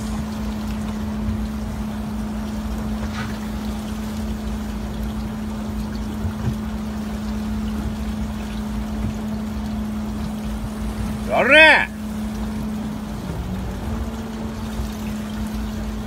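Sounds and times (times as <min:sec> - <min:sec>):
boat engine humming: 0:00.0 - 0:16.0
water rushing: 0:00.0 - 0:16.0
wind: 0:00.0 - 0:16.0.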